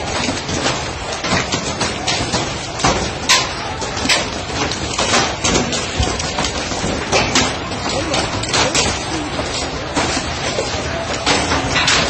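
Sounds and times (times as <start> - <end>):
dense crowd noise: 0.0 - 12.0
sharp knocks and bangs: 0.0 - 12.0.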